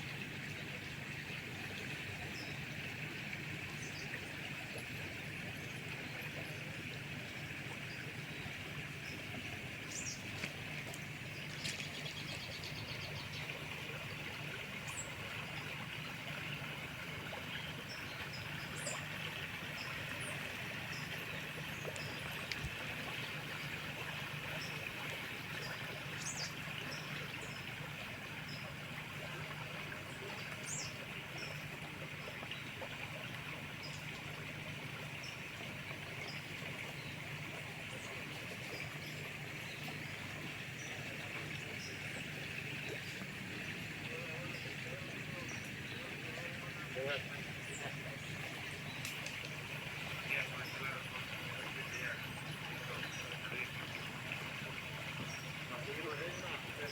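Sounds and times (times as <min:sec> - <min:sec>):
birds chirping: 0:07.7 - 0:56.9
river water rushing: 0:08.6 - 0:56.9.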